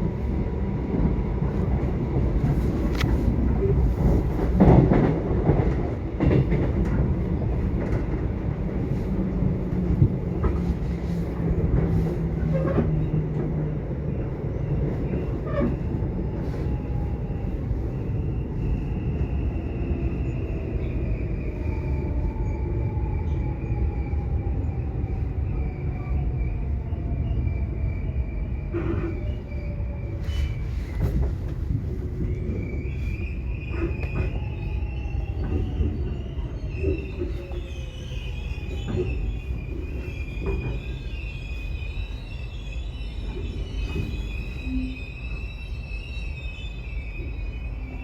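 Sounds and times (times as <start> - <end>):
subway train rumble: 0.0 - 48.0.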